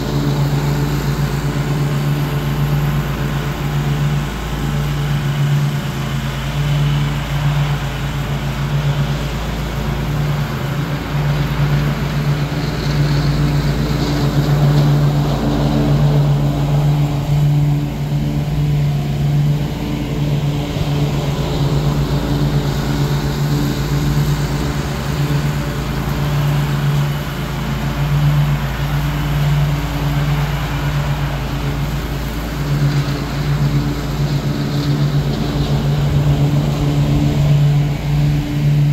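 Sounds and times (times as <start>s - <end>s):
riding mower engine droning: 0.0s - 38.9s.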